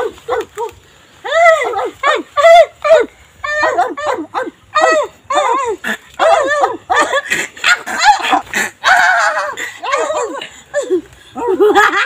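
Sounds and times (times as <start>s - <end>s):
people yelping and shouting: 0.0s - 12.0s.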